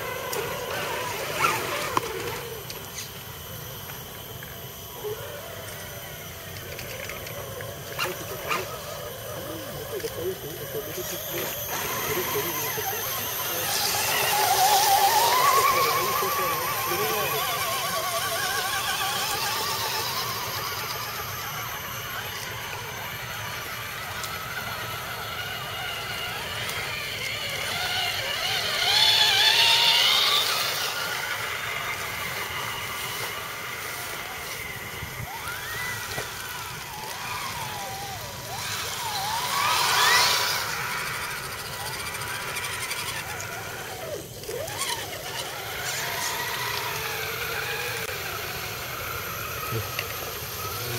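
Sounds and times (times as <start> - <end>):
electric motor whine of toy trucks: 0.0 - 50.9.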